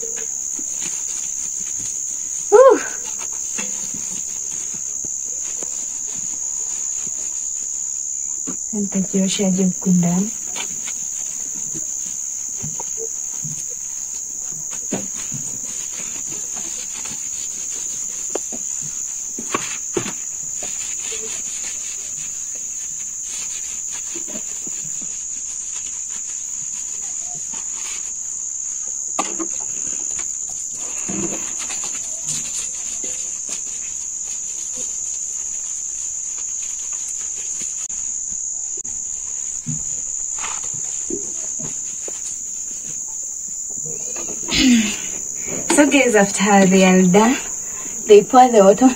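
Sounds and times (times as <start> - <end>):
crickets chirring: 0.0 - 48.9.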